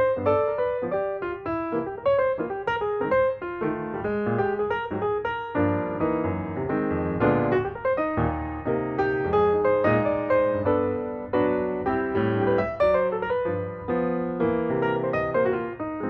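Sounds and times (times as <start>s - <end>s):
piano playing quick run: 0.0s - 16.0s.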